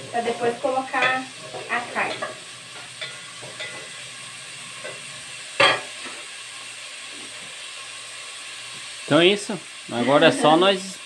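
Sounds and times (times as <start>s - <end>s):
bacon sizzling in a pot: 0.0s - 11.0s.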